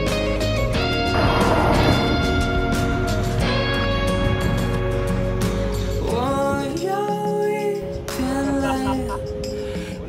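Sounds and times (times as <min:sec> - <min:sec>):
music of sustained notes: 0:00.0 - 0:10.0.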